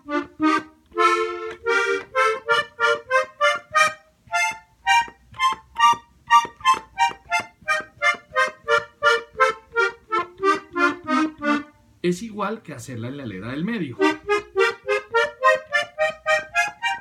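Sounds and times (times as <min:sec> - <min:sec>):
button accordion playing chords: 0:00.0 - 0:12.2, 0:13.3 - 0:17.0.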